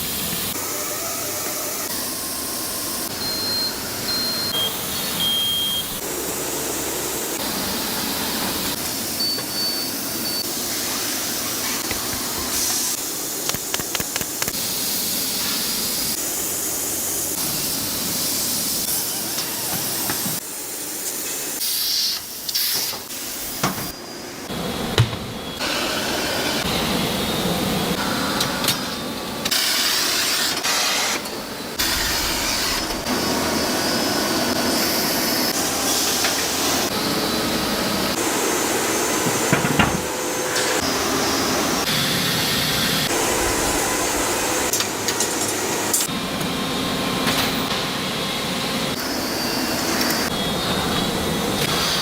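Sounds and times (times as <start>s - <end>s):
workshop machine and tool noise: 0.0s - 52.0s.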